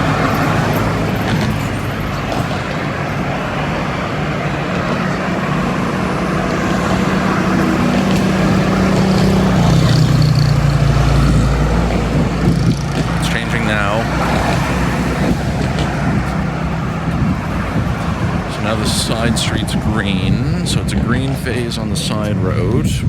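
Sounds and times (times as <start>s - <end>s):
road traffic engines: 0.0s - 23.0s.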